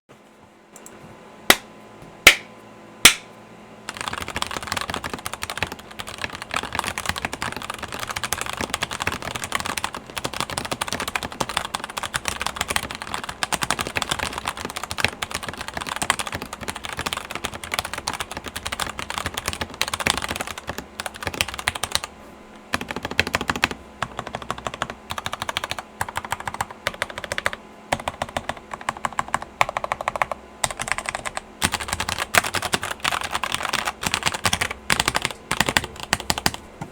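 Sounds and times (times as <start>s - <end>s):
mechanical keyboard typing: 3.9s - 22.1s, 22.7s - 36.6s.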